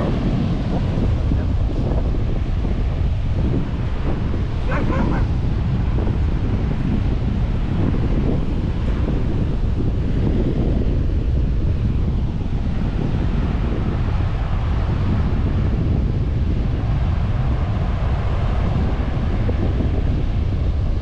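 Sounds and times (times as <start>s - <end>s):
sea surf washing: 0.0s - 21.0s
wind buffeting microphone: 0.0s - 21.0s.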